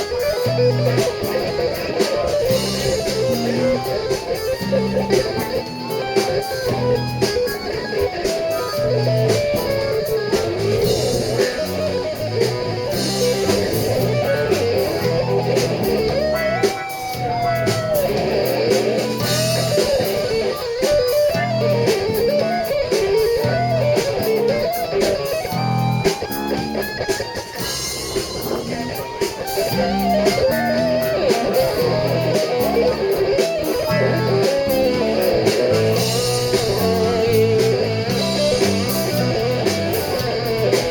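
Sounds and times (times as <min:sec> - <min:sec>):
blues-rock band playing: 0:00.0 - 0:40.9
electric guitar solo bending notes: 0:00.0 - 0:40.9.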